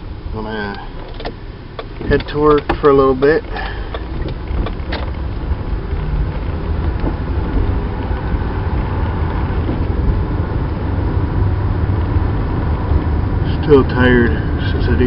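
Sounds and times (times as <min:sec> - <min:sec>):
low vibration rumble: 0:00.0 - 0:15.0
road and tyre noise: 0:00.0 - 0:15.0.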